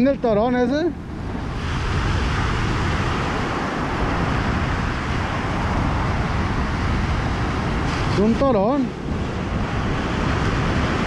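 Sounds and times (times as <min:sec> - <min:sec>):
ocean surf breaking on beach: 0:00.0 - 0:11.0
wind rumble on microphone: 0:00.0 - 0:11.0.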